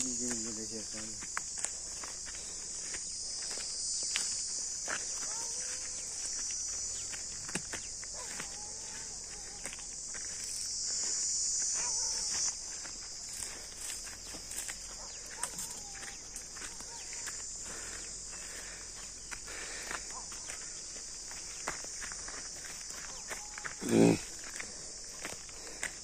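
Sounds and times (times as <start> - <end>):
footsteps on ground: 0.0 - 26.0
insects buzzing: 0.0 - 26.0.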